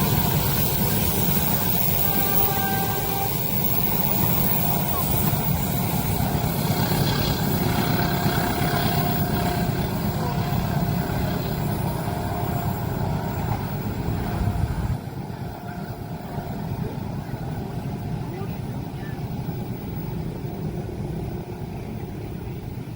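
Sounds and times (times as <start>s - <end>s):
train passing rumble: 0.0s - 22.9s.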